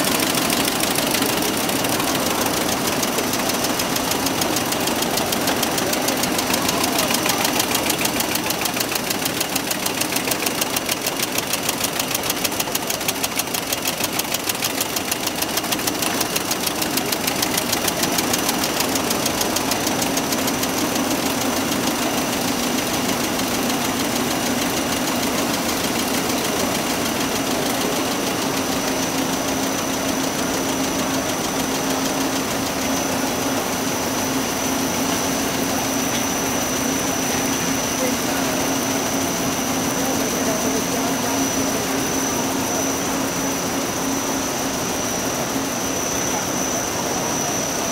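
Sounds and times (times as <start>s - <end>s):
machine whirring: 0.0s - 47.9s.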